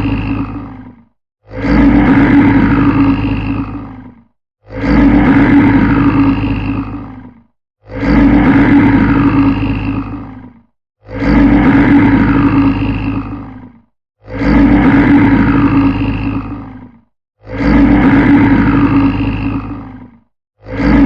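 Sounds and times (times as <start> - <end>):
large animal roaring: 0.0 - 21.0.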